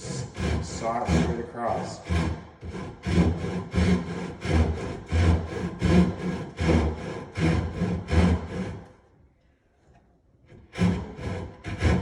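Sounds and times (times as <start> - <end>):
hand saw cutting wood: 0.0 - 9.0, 10.5 - 12.0.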